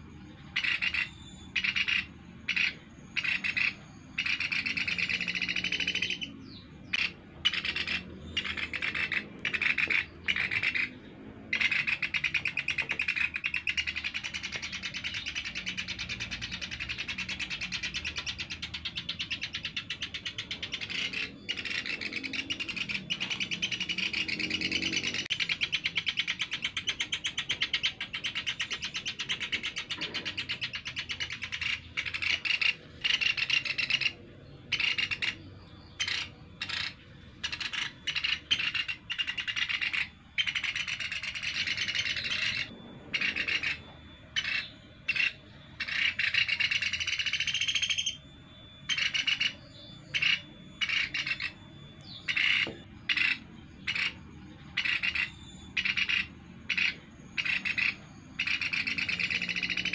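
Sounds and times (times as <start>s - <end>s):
woodpecker chattering calls: 0.0s - 59.9s.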